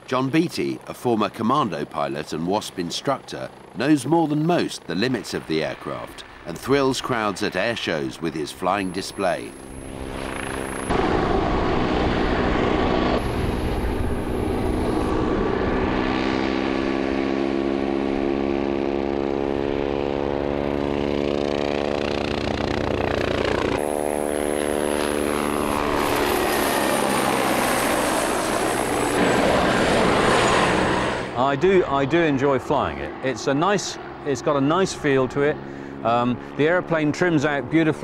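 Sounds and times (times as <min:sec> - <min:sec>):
helicopter rotors beating: 0:00.0 - 0:38.0
turboshaft engine whine: 0:00.0 - 0:38.0.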